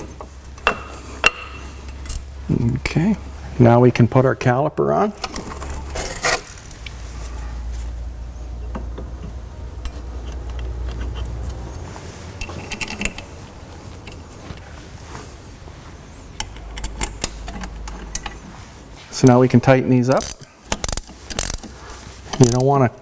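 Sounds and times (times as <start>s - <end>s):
low steady rumble: 0.0s - 22.5s.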